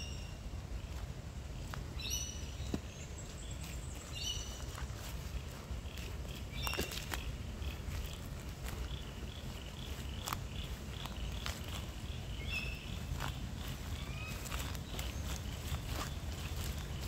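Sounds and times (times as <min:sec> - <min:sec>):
steady low rumble: 0:00.2 - 0:17.0
footsteps of person walking: 0:00.8 - 0:17.0.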